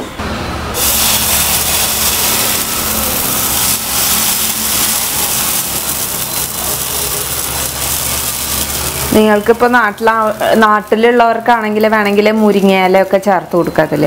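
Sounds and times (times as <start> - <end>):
batter sizzling on hot pan: 0.8 - 13.8.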